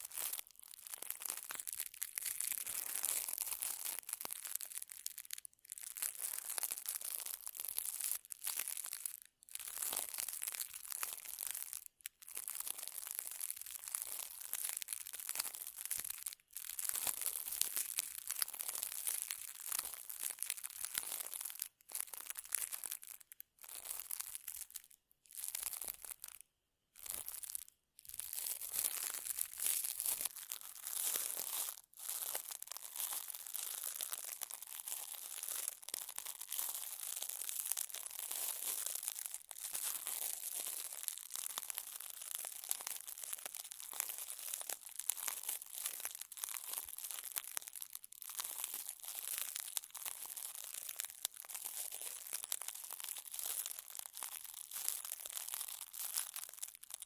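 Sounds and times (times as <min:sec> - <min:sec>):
crinkly scratchy rustling: 0:00.0 - 0:26.4, 0:27.0 - 0:57.0.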